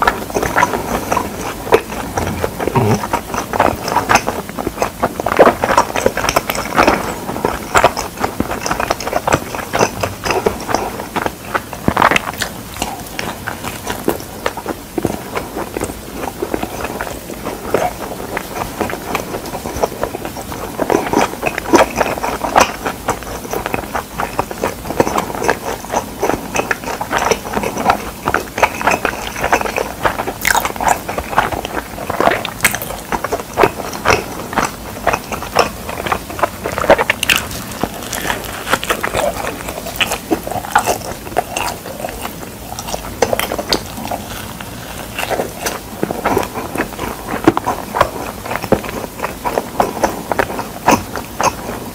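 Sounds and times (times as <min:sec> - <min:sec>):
crunchy crust clicks: 0:00.0 - 0:51.9
person chewing pizza: 0:00.0 - 0:51.9.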